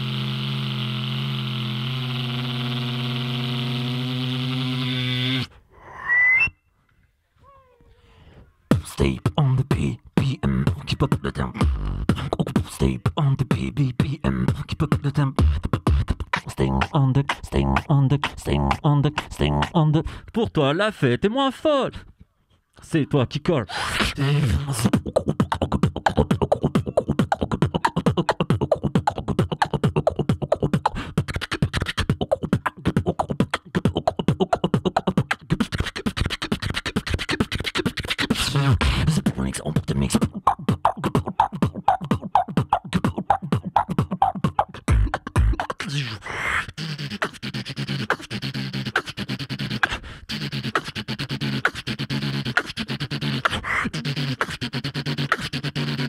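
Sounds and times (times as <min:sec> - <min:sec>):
person beatboxing: 0:08.7 - 0:22.2, 0:22.8 - 0:56.0.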